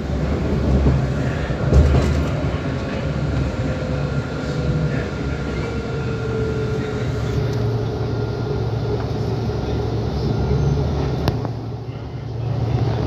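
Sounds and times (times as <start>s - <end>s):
tram bump: 0.0s - 13.0s
tram rumbling on rails: 0.0s - 13.0s.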